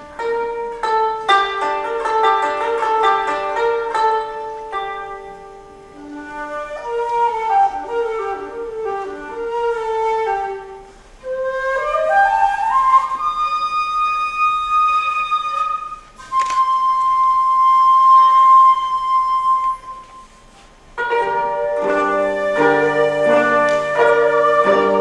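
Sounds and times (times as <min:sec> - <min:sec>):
koto plucking: 0:00.0 - 0:20.2, 0:21.0 - 0:25.0
shakuhachi flute notes: 0:00.0 - 0:25.0.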